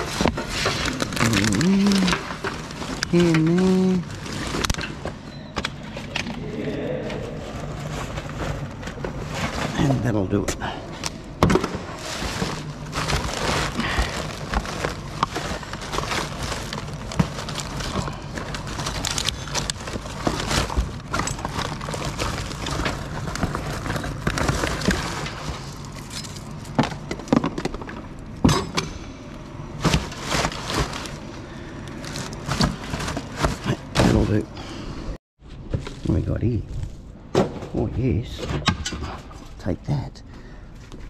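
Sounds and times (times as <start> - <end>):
plastic bags and cardboard rustling: 0.0 - 28.4, 29.3 - 38.4
steady low hum: 0.0 - 41.0.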